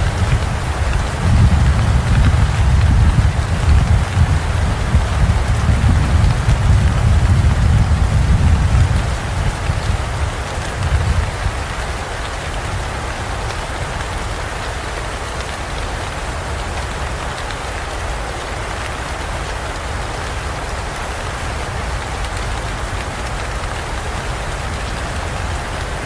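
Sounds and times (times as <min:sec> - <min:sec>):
heavy rain in forest: 0:00.0 - 0:26.0.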